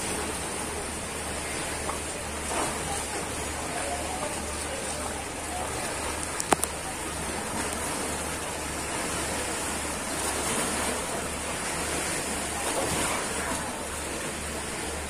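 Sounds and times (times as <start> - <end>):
waves lapping in shallow water: 0.0 - 15.0.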